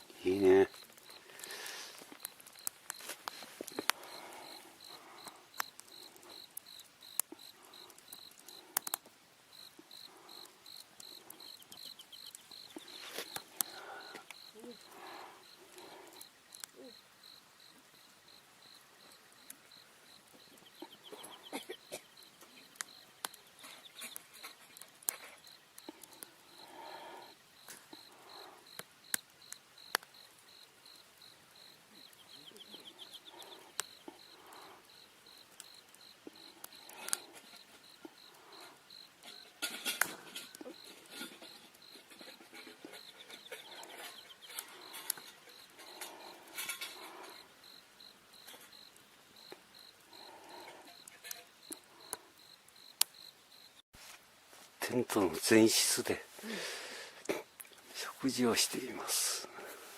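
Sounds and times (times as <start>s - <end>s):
cricket chirping: 0.2s - 53.8s.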